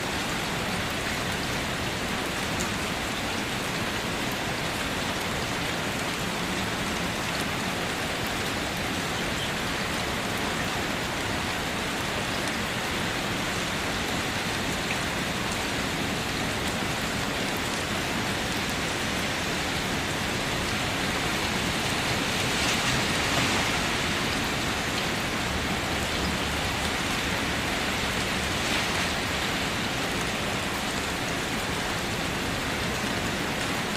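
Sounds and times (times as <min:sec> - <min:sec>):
heavy rain downpour: 0:00.0 - 0:33.9.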